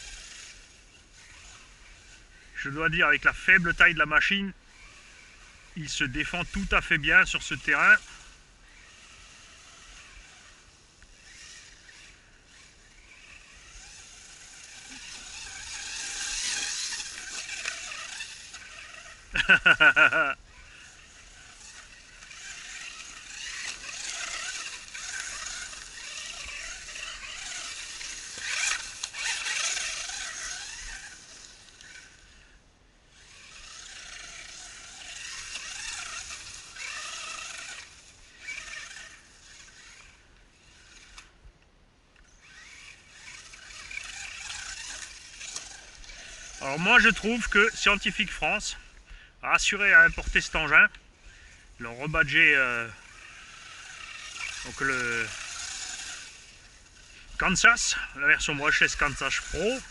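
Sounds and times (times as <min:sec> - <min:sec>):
rc truck electric motor whining: 0:00.0 - 0:59.9.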